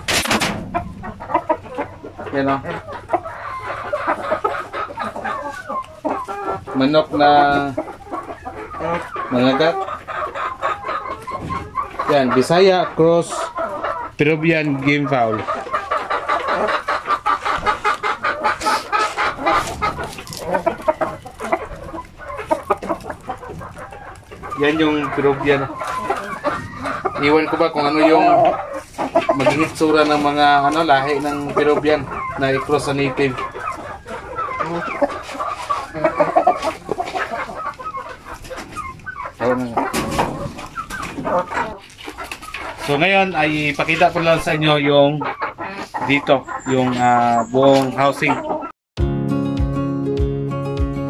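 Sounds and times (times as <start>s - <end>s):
drawn-out chicken call: 0.0s - 48.7s
chickens clucking: 0.0s - 48.8s.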